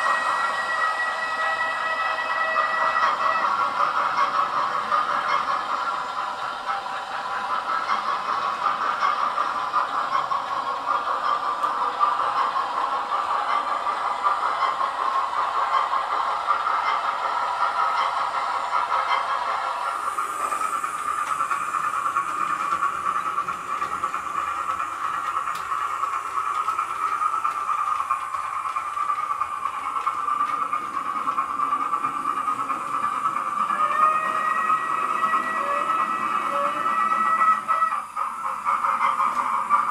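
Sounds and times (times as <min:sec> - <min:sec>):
model trains whirring rattle: 0:00.0 - 0:39.9.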